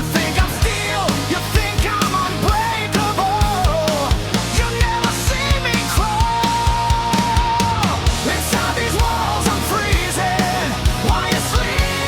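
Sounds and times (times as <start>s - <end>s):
drum kit: 0.0s - 12.0s
heavy metal music: 0.0s - 12.0s.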